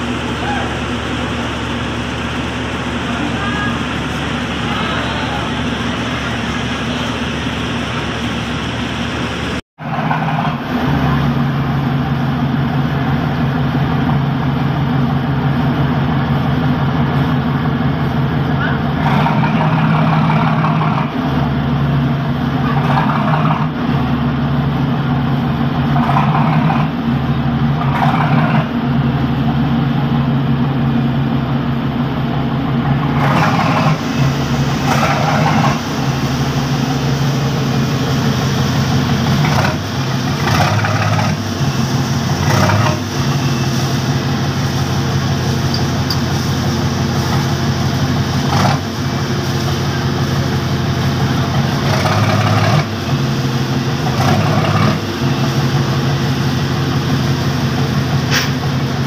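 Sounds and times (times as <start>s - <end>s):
ship engine humming: 0.0s - 59.0s.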